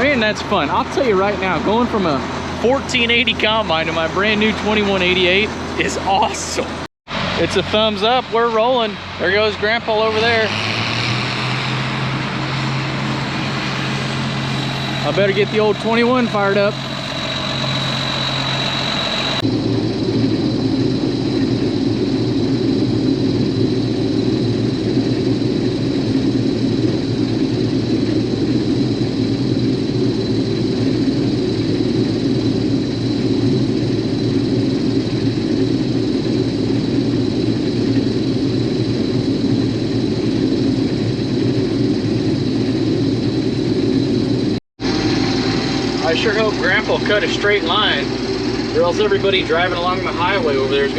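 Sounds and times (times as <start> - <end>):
combine harvester engine droning: 0.0 - 50.9
engine high whine: 0.0 - 50.9.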